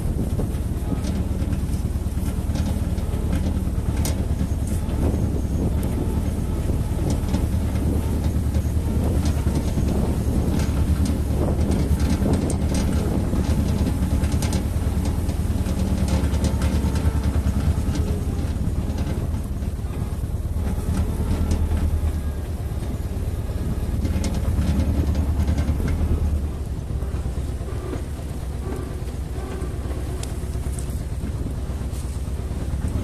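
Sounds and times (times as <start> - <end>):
tractor engine running: 0.0 - 33.0
trailer knocking and rattling: 0.0 - 33.0.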